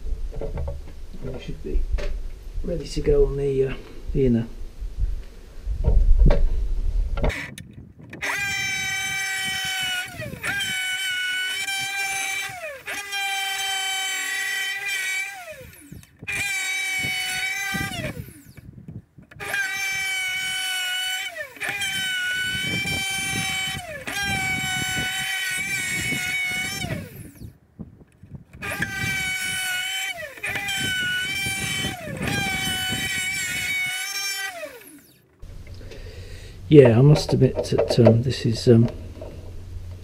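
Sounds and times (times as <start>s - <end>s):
electric router whining: 7.2s - 40.0s.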